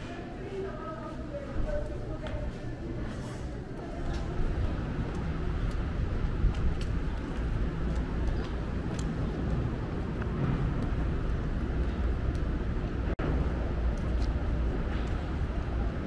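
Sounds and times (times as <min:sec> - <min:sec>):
city background rumble: 0:00.0 - 0:16.0.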